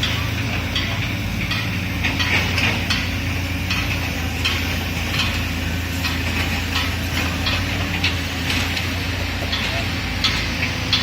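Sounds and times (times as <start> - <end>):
heavy machinery engine drone: 0.0 - 11.0.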